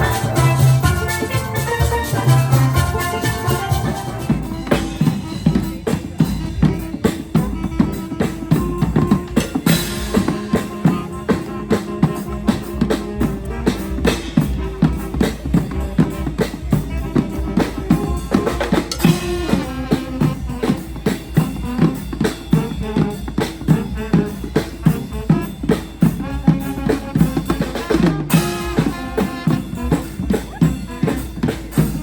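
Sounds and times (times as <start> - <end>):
drum beat: 0.0 - 32.0
horns playing melody: 0.0 - 32.0.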